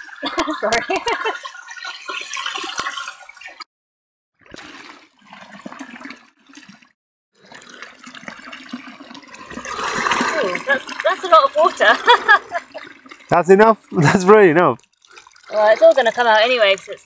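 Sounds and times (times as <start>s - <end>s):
water rushing from a hose: 0.0s - 3.6s, 4.5s - 17.0s.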